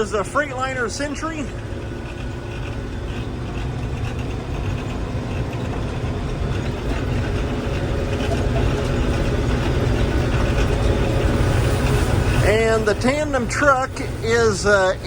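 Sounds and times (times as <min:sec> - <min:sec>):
combine harvester rumbling: 0:00.0 - 0:15.0.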